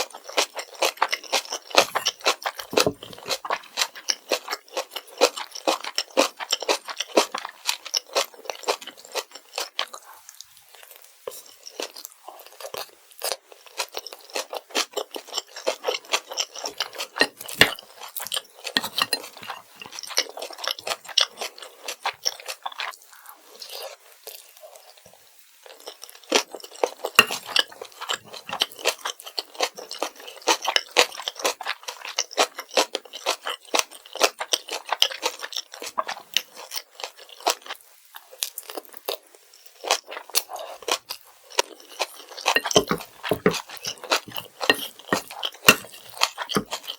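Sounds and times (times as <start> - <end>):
crunchy wet chewing: 0.0 - 25.0, 25.6 - 46.9.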